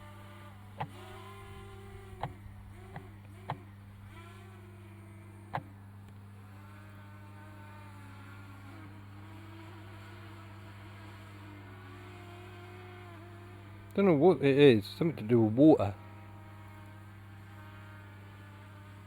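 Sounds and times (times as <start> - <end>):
quadcopter drone buzzing: 0.0 - 5.7, 6.3 - 19.0
steady low hum: 0.0 - 19.0.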